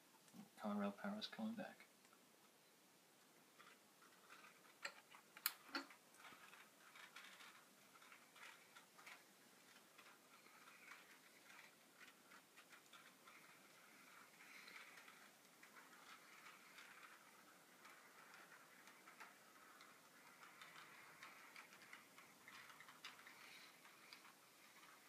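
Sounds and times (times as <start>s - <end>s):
model trains clicking on track: 0.3s - 25.0s.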